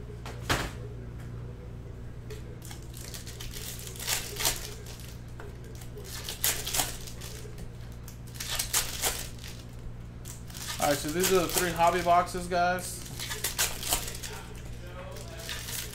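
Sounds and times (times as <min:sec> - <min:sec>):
steady low hum: 0:00.0 - 0:15.9
foil wrappers crinkling and tearing: 0:02.6 - 0:15.9.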